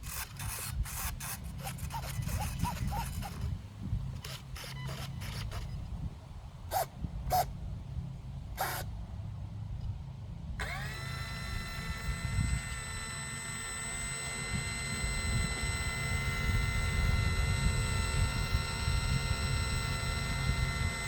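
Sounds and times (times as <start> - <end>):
servo whirs: 0.0 - 6.0, 6.7 - 7.5, 8.6 - 8.9, 10.6 - 21.0
electric motor and propeller whine: 0.0 - 21.0.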